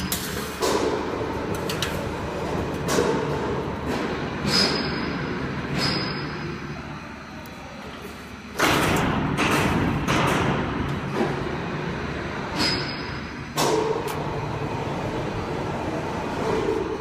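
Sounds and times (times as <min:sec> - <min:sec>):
loud machine clattering: 0:00.0 - 0:06.8, 0:08.5 - 0:17.0
low machine hum: 0:00.0 - 0:17.0.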